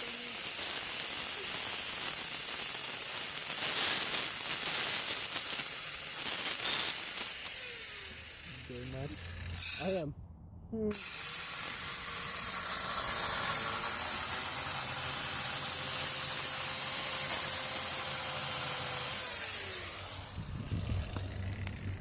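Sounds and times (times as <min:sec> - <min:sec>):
power cutting tool cutting steel: 0:00.0 - 0:10.1, 0:10.9 - 0:21.8.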